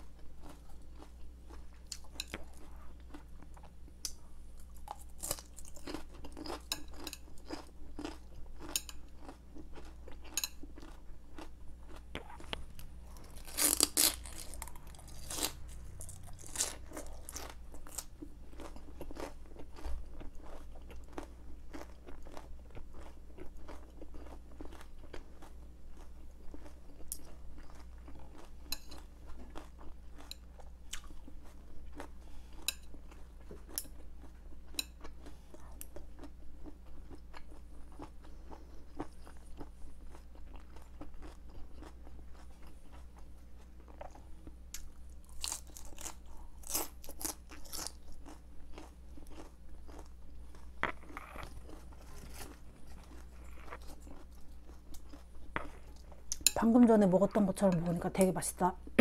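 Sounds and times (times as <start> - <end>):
chewing and crunching vegetables: 0.0 - 59.0.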